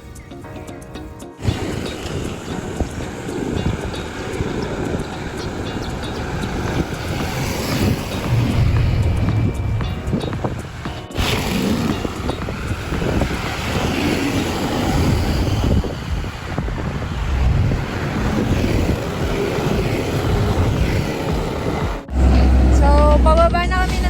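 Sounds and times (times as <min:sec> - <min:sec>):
wind buffeting microphone: 0:01.4 - 0:22.1.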